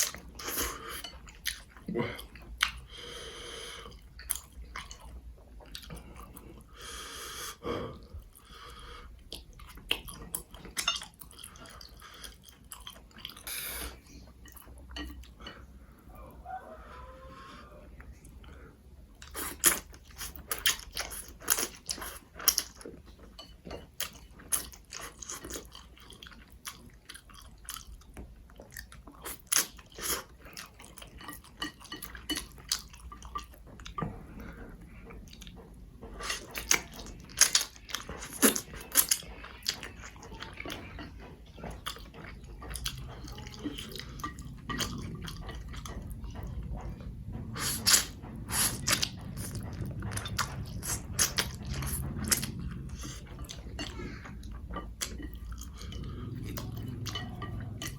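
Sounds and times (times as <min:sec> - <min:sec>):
close-up chewing mouth sounds: 0:00.0 - 0:57.9.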